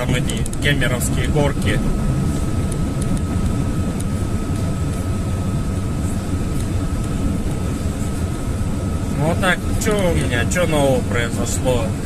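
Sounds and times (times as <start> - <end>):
thin steady whine: 0.0 - 12.0
van engine and road rumble: 0.0 - 12.0.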